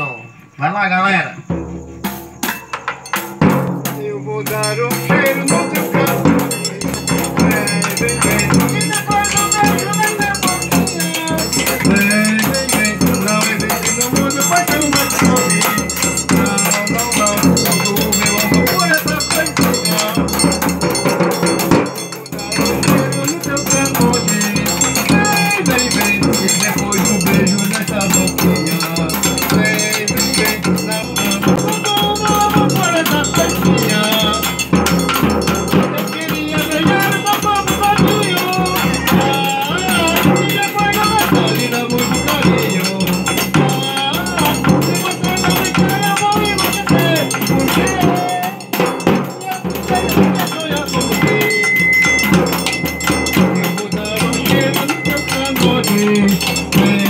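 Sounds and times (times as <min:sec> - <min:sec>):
jingling tambourine: 0:00.0 - 0:57.0
men singing: 0:03.8 - 0:57.0.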